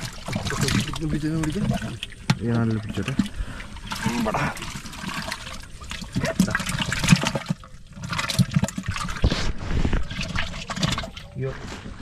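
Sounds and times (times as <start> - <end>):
water sloshing in plastic can: 0.0 - 12.0.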